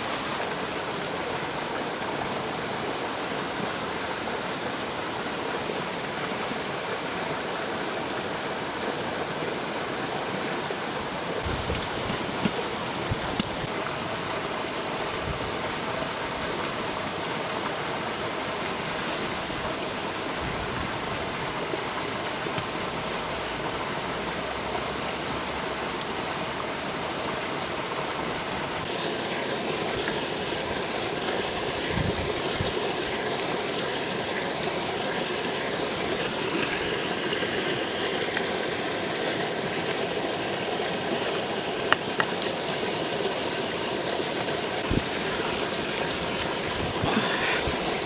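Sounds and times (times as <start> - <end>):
stream water rushing: 0.0 - 48.0.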